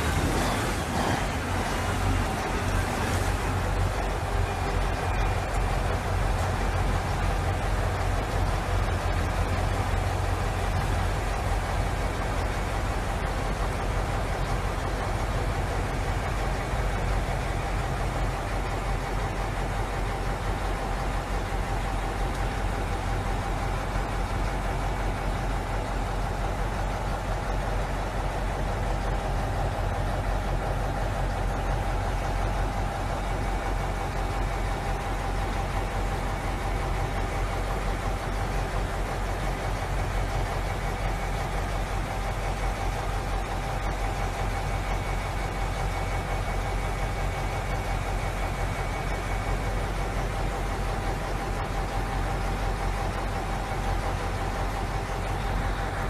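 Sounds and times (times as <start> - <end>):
truck engine droning with whine: 0.0 - 56.0.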